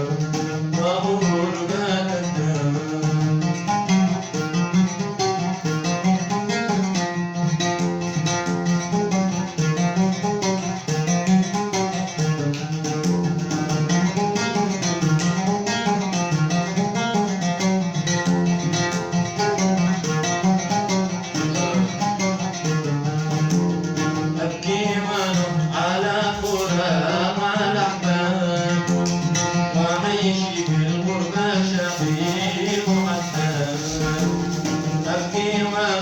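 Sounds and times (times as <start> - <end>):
plucked string instruments: 0.0 - 36.0.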